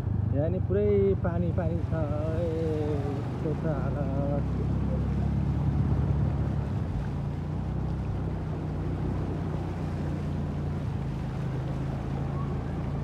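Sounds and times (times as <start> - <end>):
water sloshing and splashing: 0.2 - 13.0.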